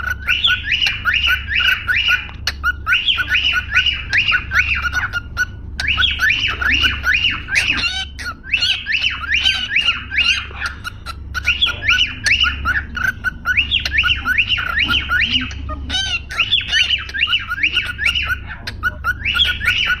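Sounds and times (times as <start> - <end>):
low steady hum: 0.0 - 20.0
parrots squawking and chirping: 0.0 - 20.0.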